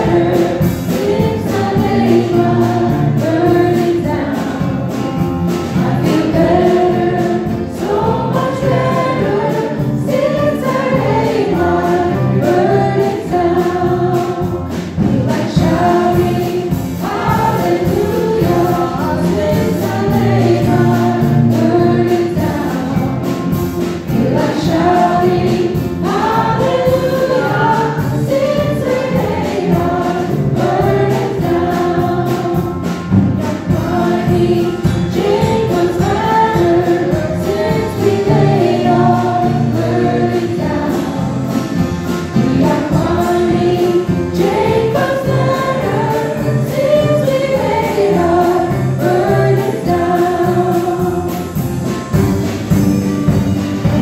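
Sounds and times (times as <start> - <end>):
bass guitar: 0.0 - 54.0
electric guitars: 0.0 - 54.0
voices singing together: 0.0 - 54.0.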